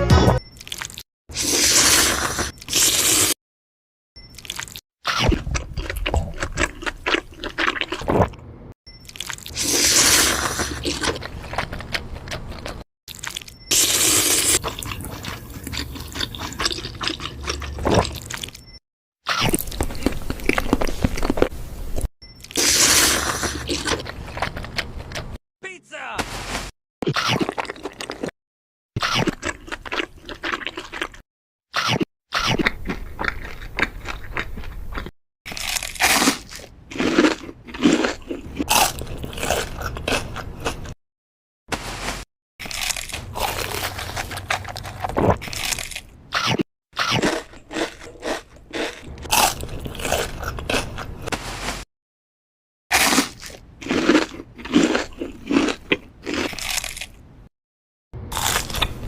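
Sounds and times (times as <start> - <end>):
crunching and chewing crisp food: 0.5 - 3.4, 4.3 - 8.4, 9.0 - 18.7, 19.3 - 25.4, 26.3 - 28.3, 29.0 - 41.0, 41.8 - 51.9, 52.9 - 57.5, 58.3 - 59.0.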